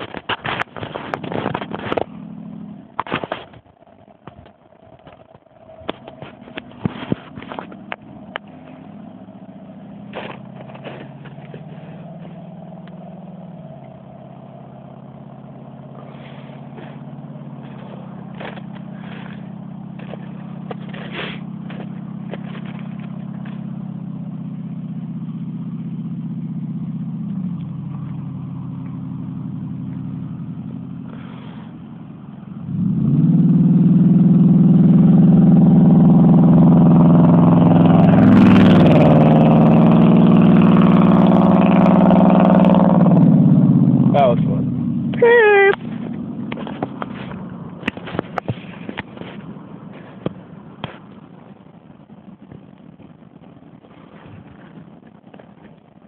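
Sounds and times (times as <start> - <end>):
engine exhaust rumbling and revving: 0.0 - 56.0.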